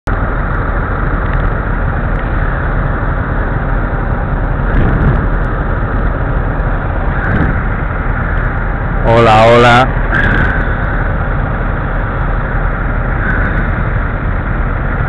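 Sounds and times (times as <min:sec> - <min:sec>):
engines idling: 0:00.0 - 0:15.0
street noise: 0:00.0 - 0:15.0.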